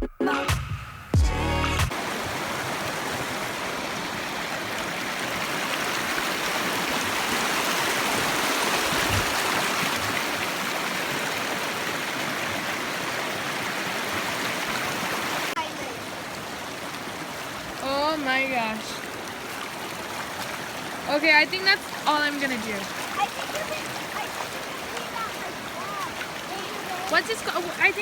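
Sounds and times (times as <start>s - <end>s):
stream water flowing: 1.9s - 28.0s.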